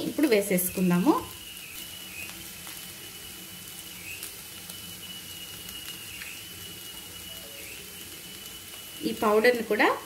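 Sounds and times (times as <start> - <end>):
thin high tone: 0.0 - 10.0
vegetables sizzling in oil: 0.0 - 10.0.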